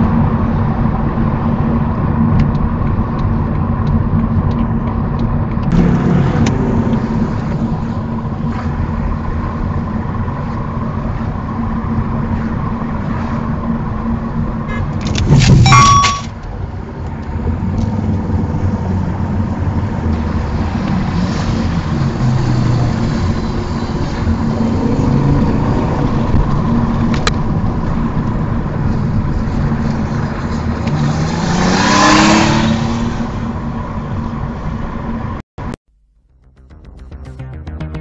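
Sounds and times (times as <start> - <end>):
road noise inside car: 0.0 - 36.6
car engine: 0.0 - 38.0.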